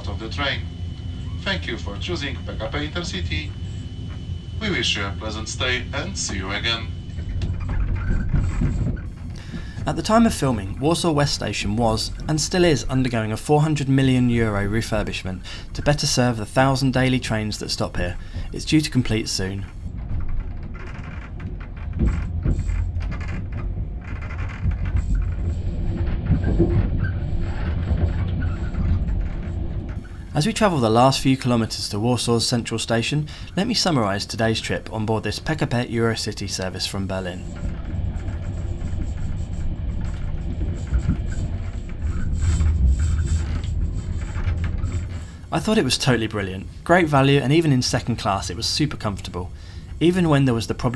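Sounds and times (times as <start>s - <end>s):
train rumble from inside coach: 1.4s - 50.9s.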